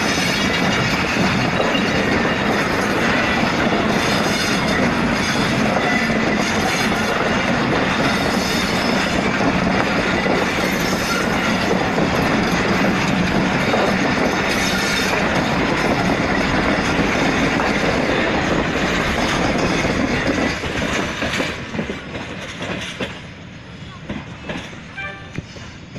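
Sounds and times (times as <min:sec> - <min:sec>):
train coaches rolling past: 0:00.0 - 0:25.9
wheels on rails: 0:00.0 - 0:25.9.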